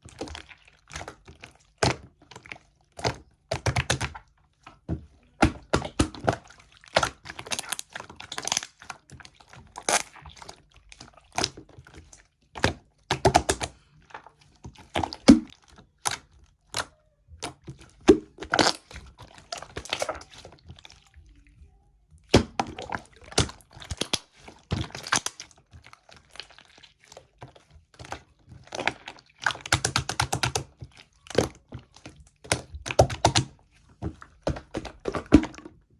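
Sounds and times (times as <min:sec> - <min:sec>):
slime squished by hand: 0:00.1 - 0:35.8.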